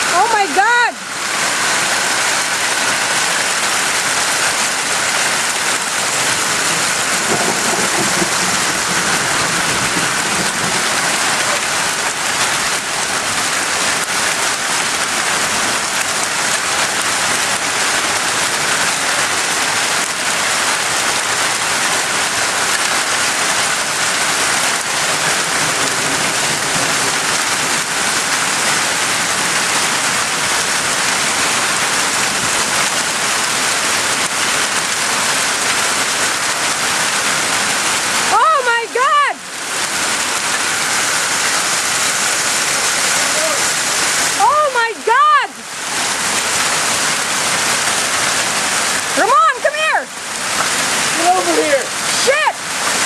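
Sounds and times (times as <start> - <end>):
hail clattering on hard surfaces: 0.0 - 44.6, 45.6 - 53.0
hiss of downpour: 0.0 - 53.0.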